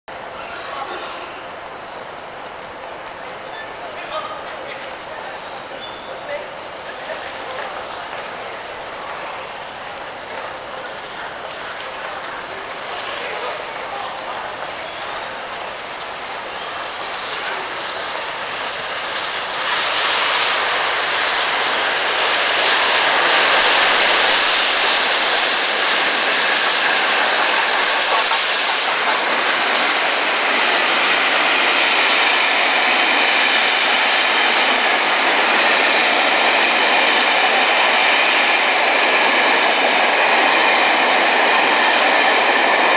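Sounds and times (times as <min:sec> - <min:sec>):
steam train passing at speed: 0:00.1 - 0:42.9.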